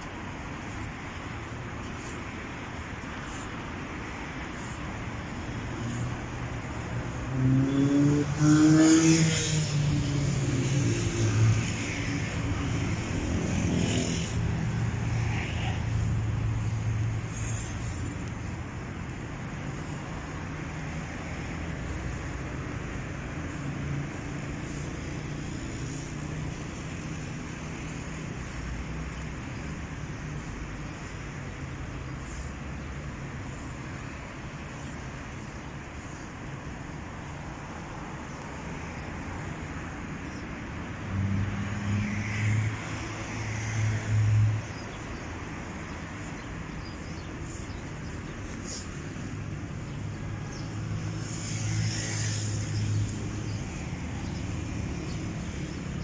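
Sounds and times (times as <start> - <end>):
traffic hum: 0.0 - 56.0
vehicle passing: 0.7 - 36.2, 40.9 - 56.0.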